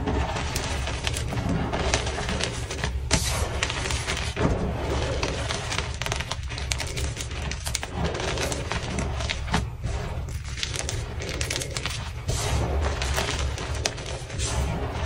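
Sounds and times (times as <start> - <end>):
chalk crunching and crackling: 0.0 - 15.0.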